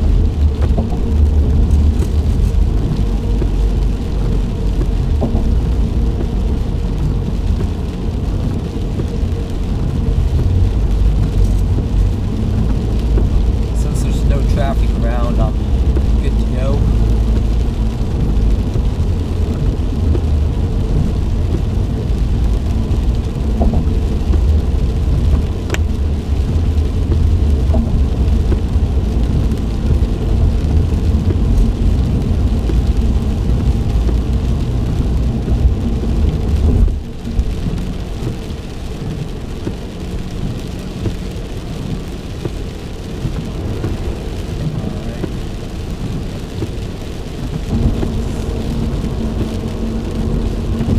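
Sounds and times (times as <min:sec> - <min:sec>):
car interior rumble: 0:00.0 - 0:50.9
rain on car: 0:00.0 - 0:50.9.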